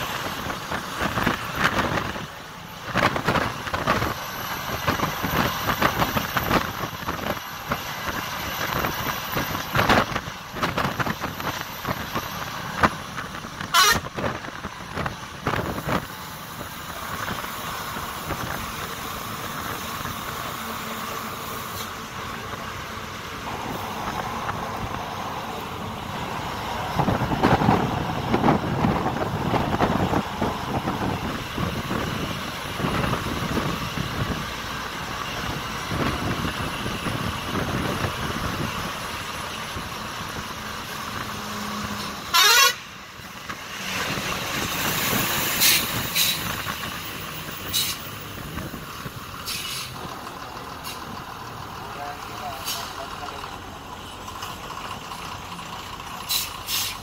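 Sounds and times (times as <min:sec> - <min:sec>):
coach driving on highway: 0:00.0 - 0:57.0.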